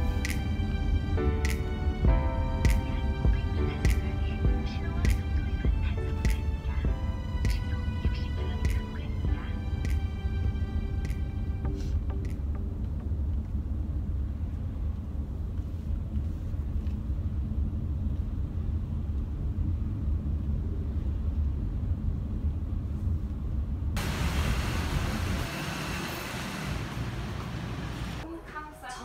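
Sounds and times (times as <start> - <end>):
hissy city street background: 0.1 - 29.0.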